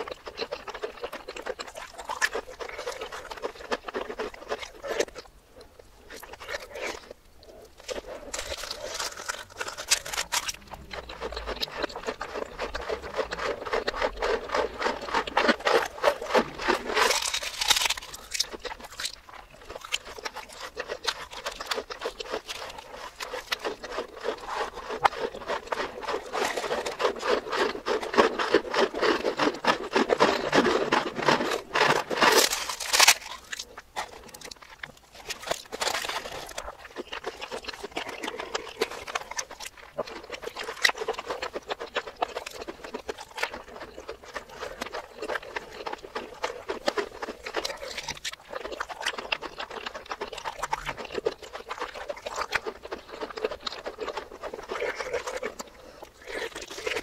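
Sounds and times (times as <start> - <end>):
reversed crunchy chewing: 0.0 - 57.0.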